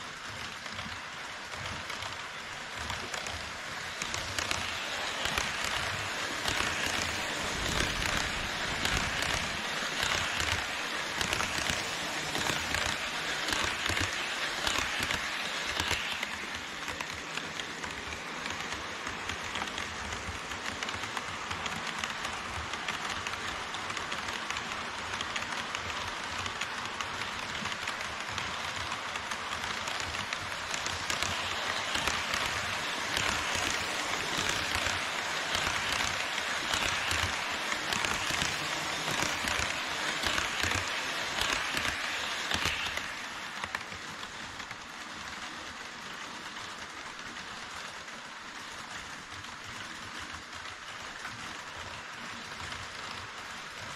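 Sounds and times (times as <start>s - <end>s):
model train wheels rattling on rails: 0.0s - 53.9s.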